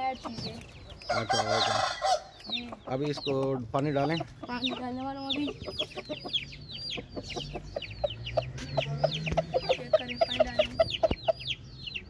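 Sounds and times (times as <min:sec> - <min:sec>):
birds chirping: 0:00.0 - 0:12.0
low bird clucks: 0:00.0 - 0:12.0.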